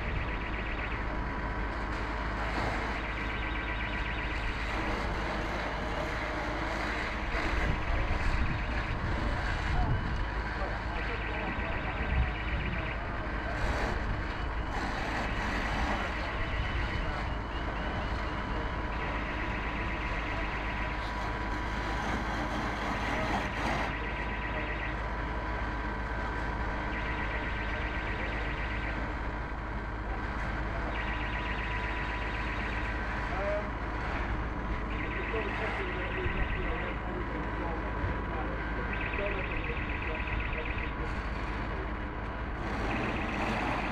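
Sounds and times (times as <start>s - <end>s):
alarm bursts: 0.0s - 43.9s
fire engine pump rumbling: 0.0s - 43.9s.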